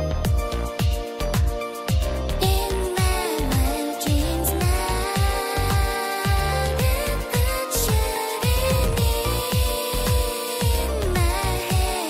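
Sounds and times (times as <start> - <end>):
deep drum thumps: 0.3 - 12.0.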